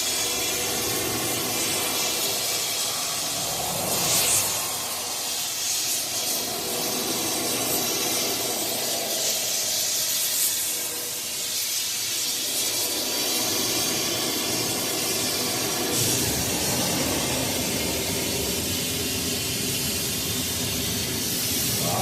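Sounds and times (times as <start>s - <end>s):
torch flame hissing: 0.0s - 22.0s.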